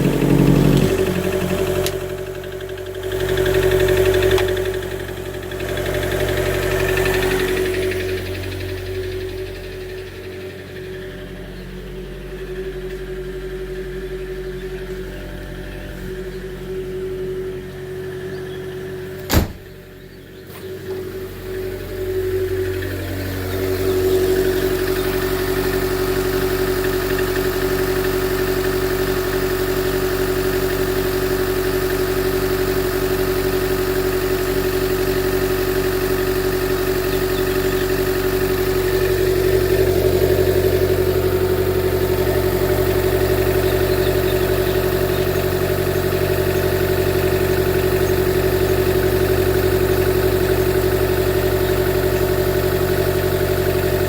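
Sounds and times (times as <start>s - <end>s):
car engine rough idle: 0.0s - 54.0s.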